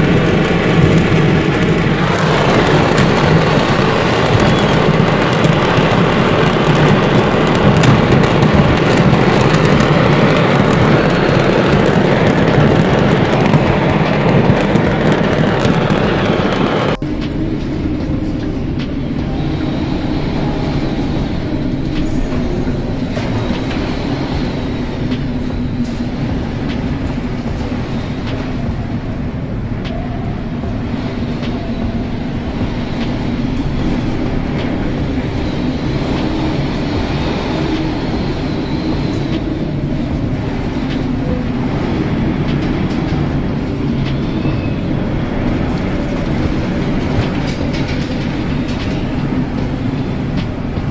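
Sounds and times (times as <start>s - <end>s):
fireworks crackling and banging: 0.0s - 50.9s
ship machinery droning: 0.0s - 50.9s
storm wind: 0.0s - 50.9s.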